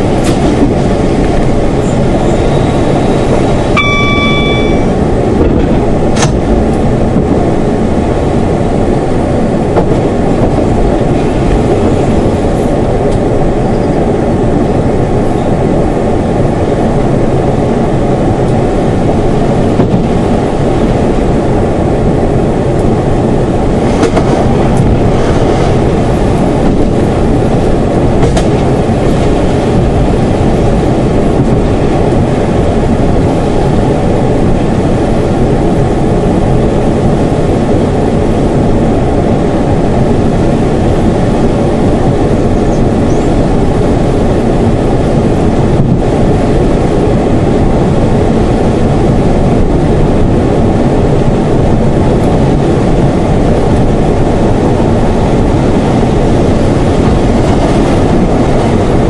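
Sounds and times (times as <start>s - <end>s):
train engine and wheels rumbling: 0.0s - 59.0s.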